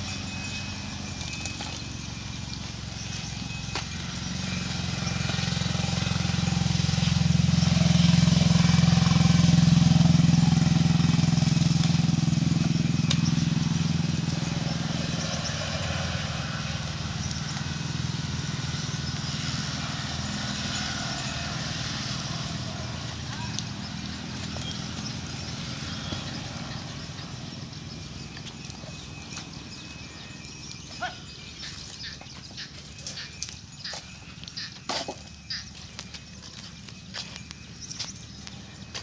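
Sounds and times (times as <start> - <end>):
vehicle engine passing: 0.0 - 39.0.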